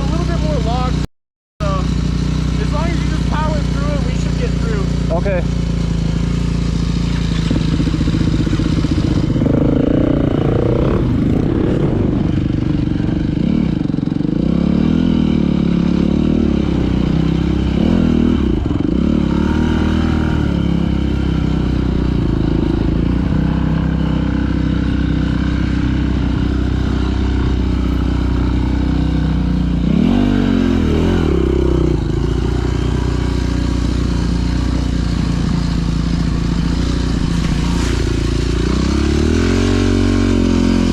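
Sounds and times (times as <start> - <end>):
dirt bike engine revving: 1.6 - 40.9.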